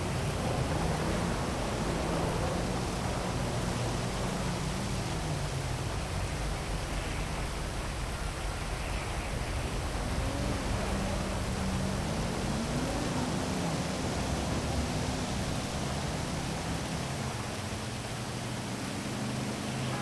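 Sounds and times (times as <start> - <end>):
heavy rain: 0.0 - 20.0
traffic hum: 0.0 - 20.0.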